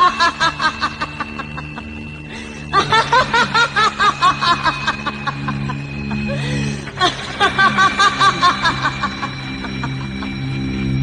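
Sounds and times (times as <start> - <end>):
woman laughing loudly: 0.0 - 10.4
droning background music: 0.0 - 11.0.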